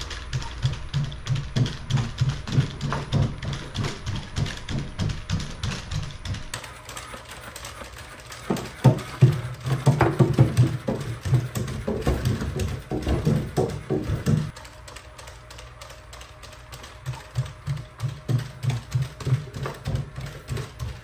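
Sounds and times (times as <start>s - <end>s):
robot feet tapping on wooden stairs: 0.0s - 21.0s.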